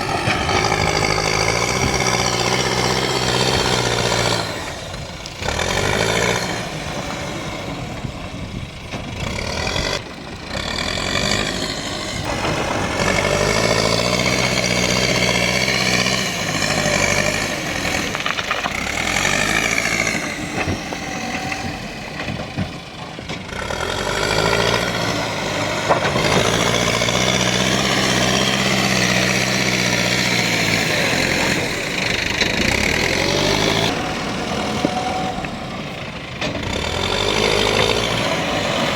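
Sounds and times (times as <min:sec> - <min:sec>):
digger diesel engine revving: 0:00.0 - 0:38.9.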